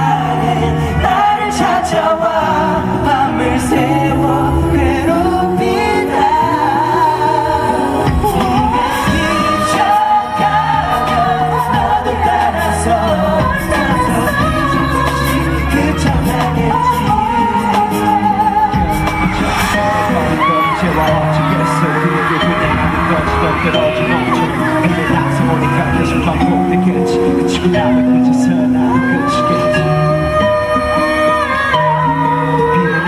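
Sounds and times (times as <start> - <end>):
instrumental accompaniment with bass: 0.0 - 33.0
men singing pop into microphones: 0.0 - 33.0.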